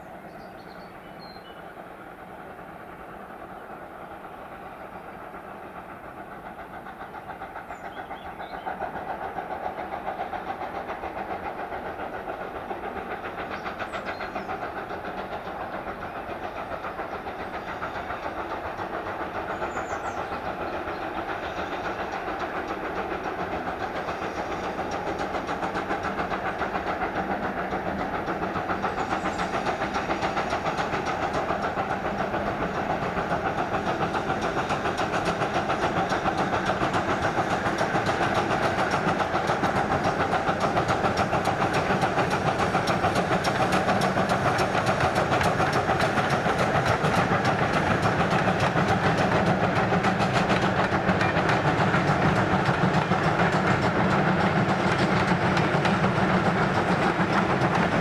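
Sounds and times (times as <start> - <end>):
steam locomotive working: 0.0 - 58.0.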